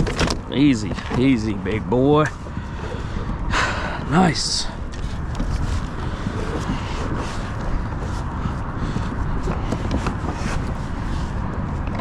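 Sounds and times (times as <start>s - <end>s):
rustles: 0.0s - 12.0s
wind buffeting microphone: 0.0s - 12.0s.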